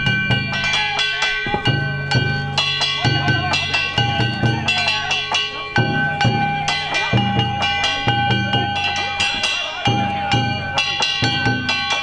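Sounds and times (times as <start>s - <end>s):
gongs ringing: 0.0s - 12.0s
large taiko drum beating: 0.0s - 12.0s.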